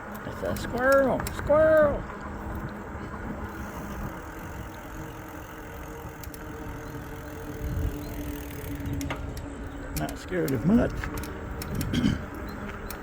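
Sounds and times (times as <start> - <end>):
bike rolling rumble: 0.0 - 13.0
faint electric motor hum: 0.0 - 13.0.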